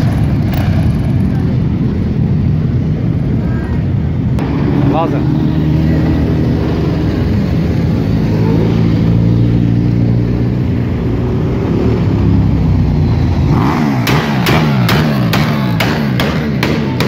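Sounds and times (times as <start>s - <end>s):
engines idling in traffic: 0.0s - 17.0s.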